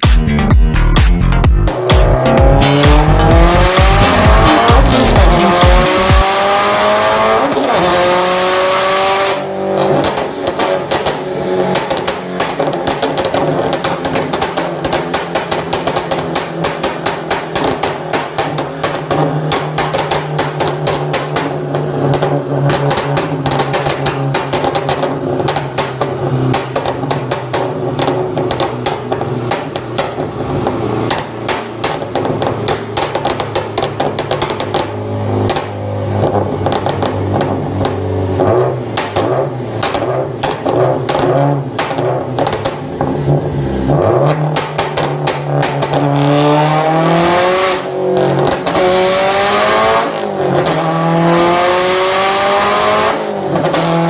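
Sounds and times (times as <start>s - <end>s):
steady engine note: 0.0s - 54.0s
car exhaust crackling and popping: 0.8s - 54.0s.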